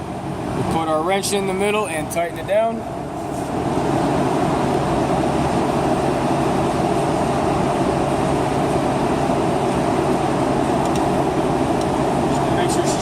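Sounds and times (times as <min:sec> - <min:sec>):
loud machinery noise: 0:00.0 - 0:13.0.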